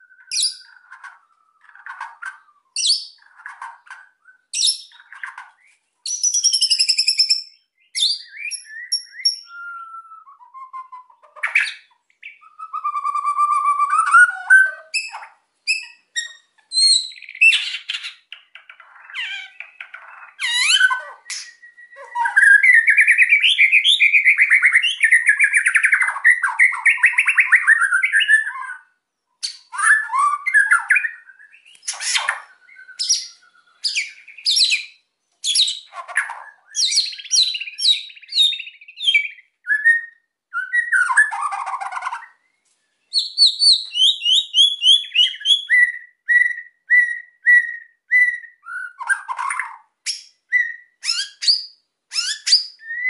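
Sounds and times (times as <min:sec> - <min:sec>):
bird singing: 0:00.0 - 0:53.0.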